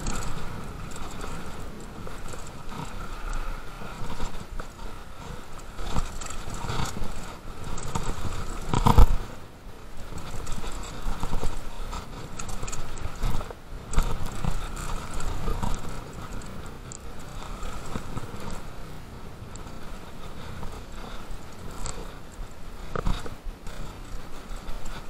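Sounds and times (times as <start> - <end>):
mountain bike rattling over trail: 0.0 - 25.0.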